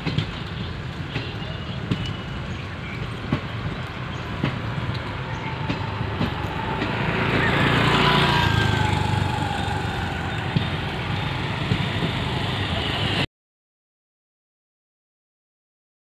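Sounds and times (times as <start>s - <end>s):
rail wagons rumbling past: 0.0s - 13.3s.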